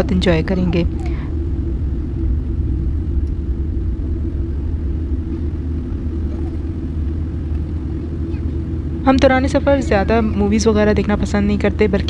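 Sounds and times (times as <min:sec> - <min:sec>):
aircraft engines at taxi power: 0:00.0 - 0:12.0
cabin air running: 0:00.0 - 0:12.0.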